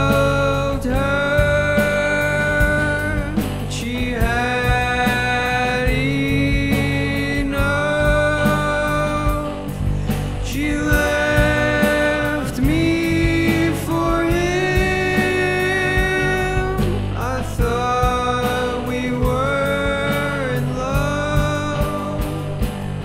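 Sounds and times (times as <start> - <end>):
male voice singing: 0.0 - 23.0
rock band playing: 0.0 - 23.0.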